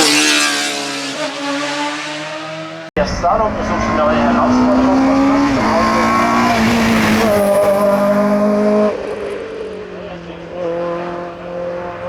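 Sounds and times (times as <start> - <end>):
racing car engine revving: 0.0 - 12.0.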